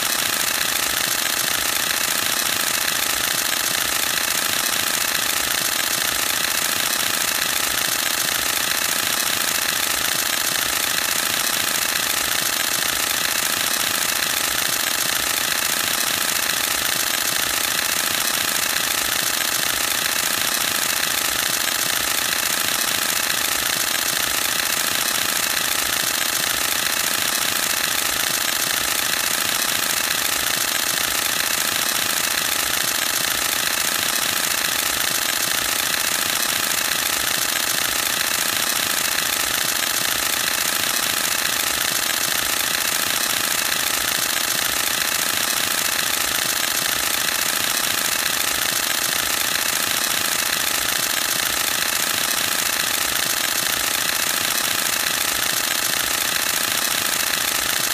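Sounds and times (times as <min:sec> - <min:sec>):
camera shutter burst: 0:00.0 - 0:57.9.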